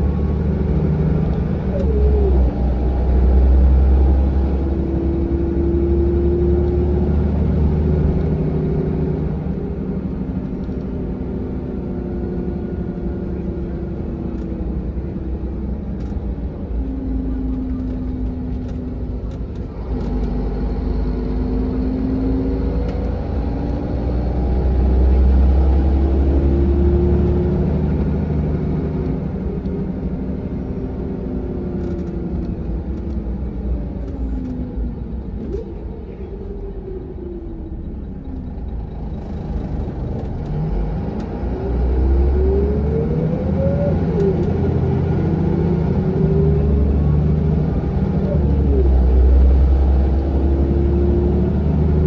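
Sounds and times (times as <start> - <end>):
bus diesel engine droning: 0.0 - 52.0
rising engine whine: 0.0 - 52.0.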